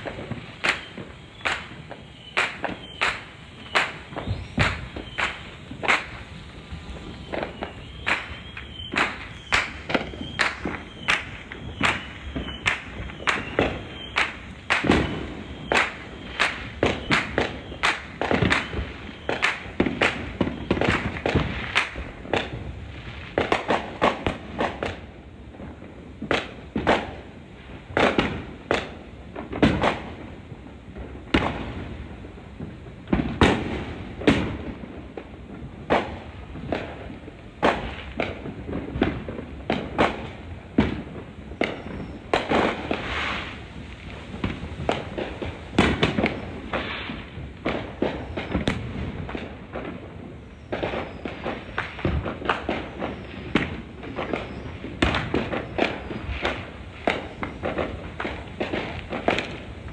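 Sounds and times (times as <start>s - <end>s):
fireworks bangs and cracks: 0.0s - 59.9s.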